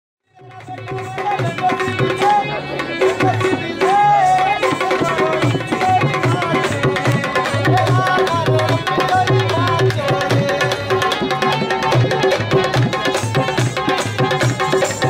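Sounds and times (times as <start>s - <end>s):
dholak drum strokes: 0.3s - 15.0s
sustained harmonium notes: 0.3s - 15.0s.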